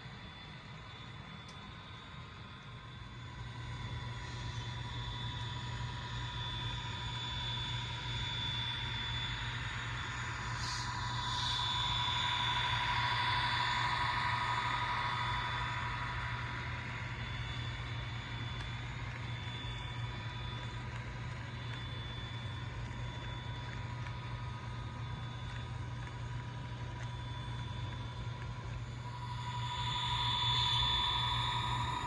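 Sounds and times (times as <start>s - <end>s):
low hum with thin whine: 0.0s - 32.0s
model locomotive engine drone: 0.0s - 32.0s.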